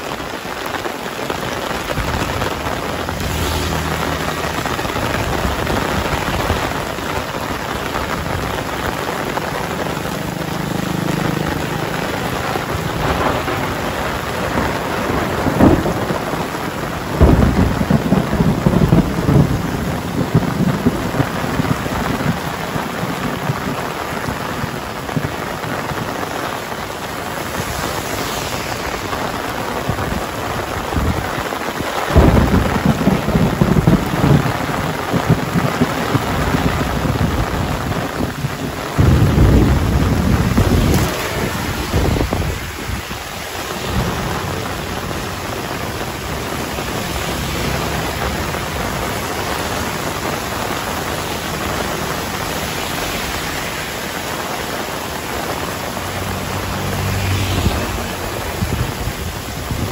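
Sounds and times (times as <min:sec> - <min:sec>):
heavy rain falling: 0:00.0 - 0:59.9
thunder rumbling: 0:00.0 - 0:59.9.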